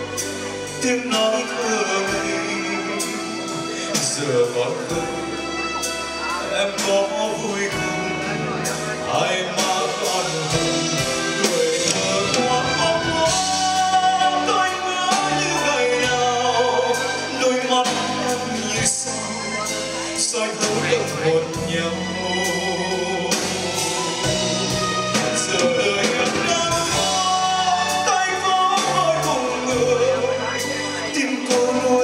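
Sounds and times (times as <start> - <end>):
live band playing a slow ballad: 0.0 - 32.0
man singing: 0.0 - 32.0.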